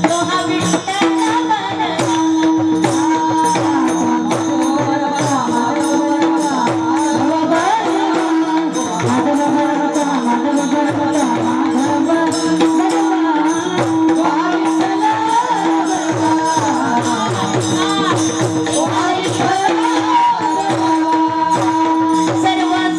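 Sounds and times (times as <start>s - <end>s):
jingling percussion: 0.0s - 22.9s.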